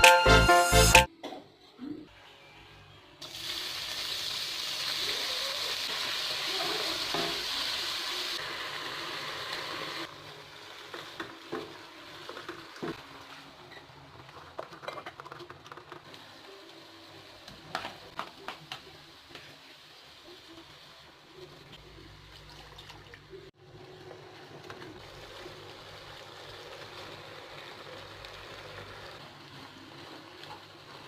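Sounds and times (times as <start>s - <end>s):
food sizzling in a frying pan: 3.2s - 22.4s, 23.2s - 31.0s.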